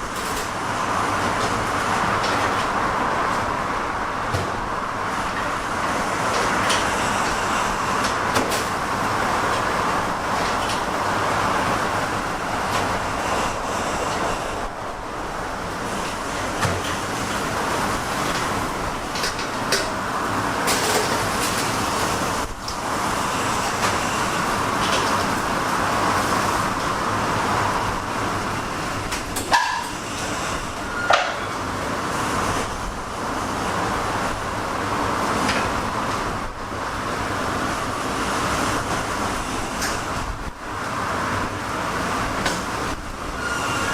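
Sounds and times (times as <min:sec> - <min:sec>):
kitchen machinery running: 0:00.0 - 0:43.9.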